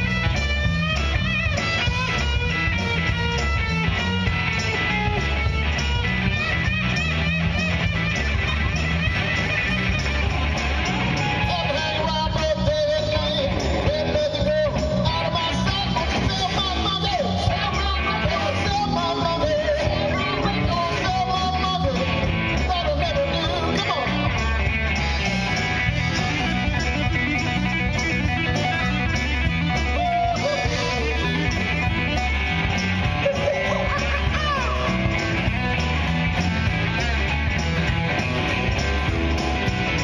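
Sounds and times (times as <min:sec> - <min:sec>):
electric guitar lead line bending: 0:00.0 - 0:40.0
live rock band playing: 0:00.0 - 0:40.0.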